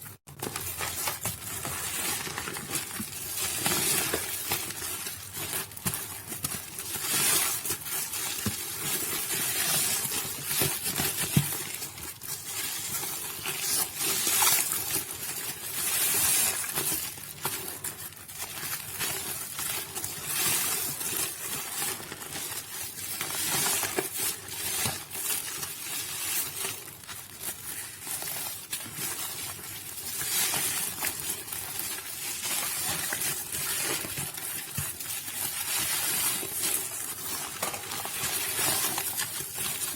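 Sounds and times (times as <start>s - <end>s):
wet soap crackling: 0.0s - 39.9s.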